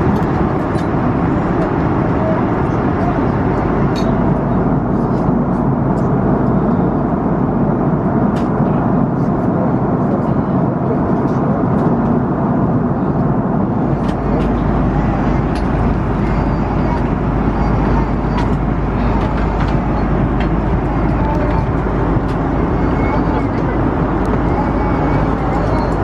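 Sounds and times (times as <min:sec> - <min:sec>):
airliner cabin noise: 0:00.0 - 0:26.0.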